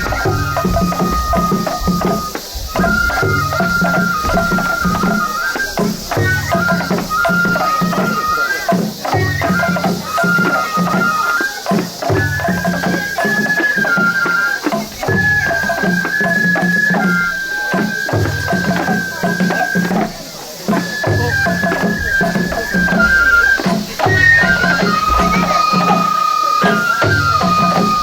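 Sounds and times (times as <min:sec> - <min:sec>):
bamboo flute melody: 0:00.0 - 0:28.0
taiko drum beats: 0:00.0 - 0:28.0.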